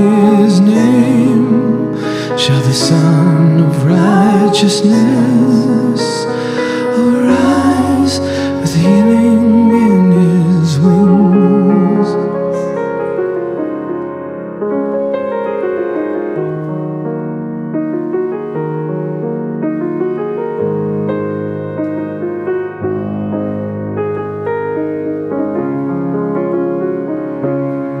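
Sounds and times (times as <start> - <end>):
piano playing slow chords: 0.0 - 28.0.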